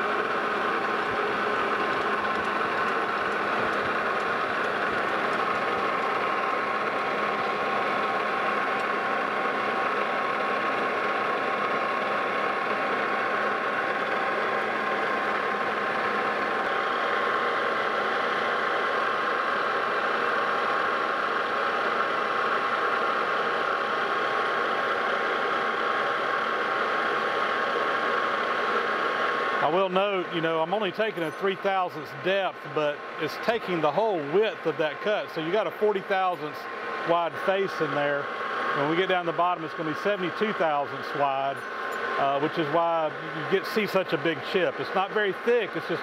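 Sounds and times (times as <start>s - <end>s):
metal lathe humming and whining: 0.0s - 46.0s.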